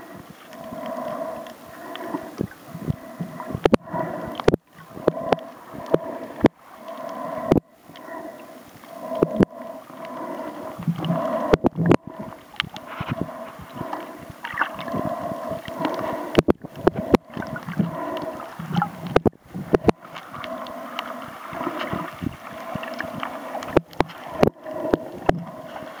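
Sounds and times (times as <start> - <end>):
underwater gurgling and swishing: 0.0 - 26.0.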